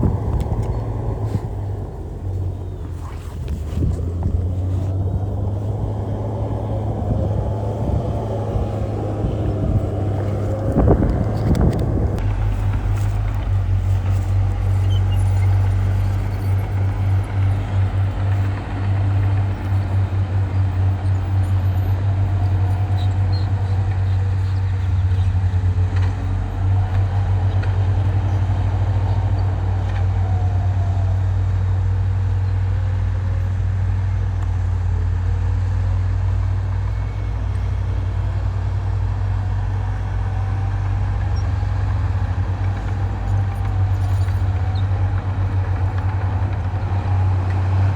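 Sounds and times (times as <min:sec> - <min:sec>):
faint whines: 0:00.0 - 0:47.9
heavy diesel machinery droning: 0:00.0 - 0:47.9.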